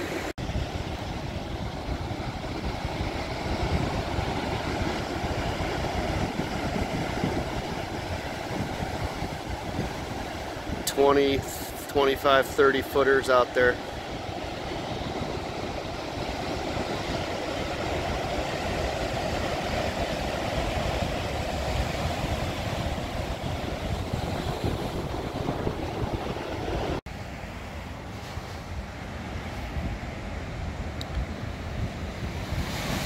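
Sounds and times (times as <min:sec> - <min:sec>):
wind on microphone: 0:00.0 - 0:11.9, 0:13.6 - 0:27.0, 0:28.1 - 0:33.0
storm surf crashing: 0:00.0 - 0:33.0.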